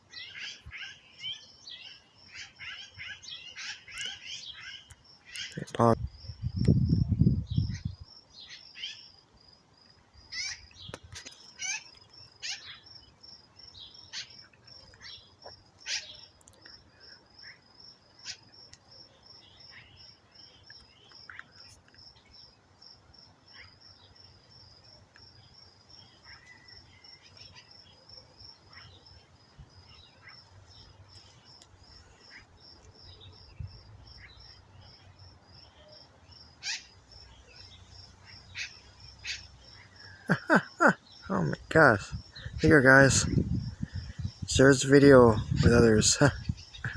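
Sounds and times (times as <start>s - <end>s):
birds chirping: 0.0s - 6.6s, 10.2s - 46.9s
insect trill: 0.1s - 46.9s.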